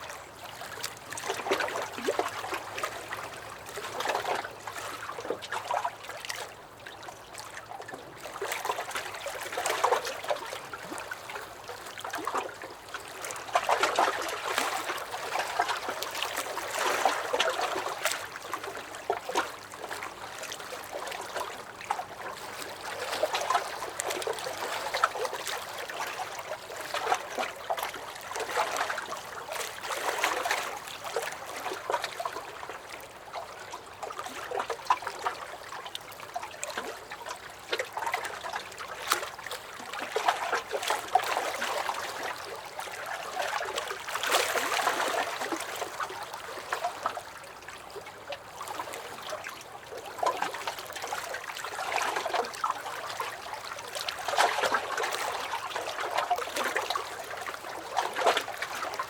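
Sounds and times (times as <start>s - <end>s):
waves lapping against wooden dock: 0.0s - 59.0s.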